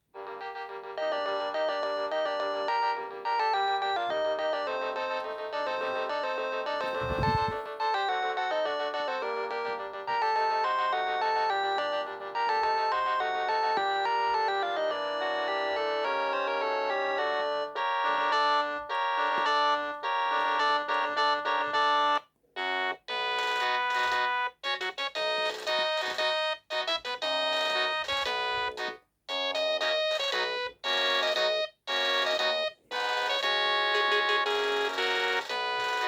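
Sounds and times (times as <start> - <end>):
polyphonic phone ringtone: 0.2 - 36.0.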